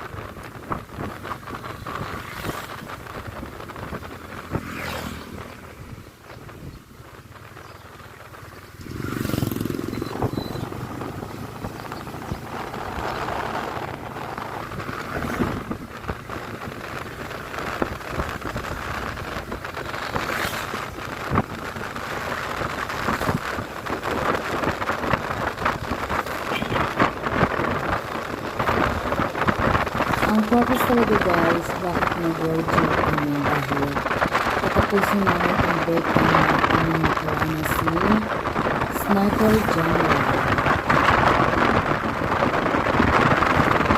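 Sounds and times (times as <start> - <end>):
motorcycle engine and road noise: 0.0 - 43.9
wind rush on microphone: 0.0 - 43.9.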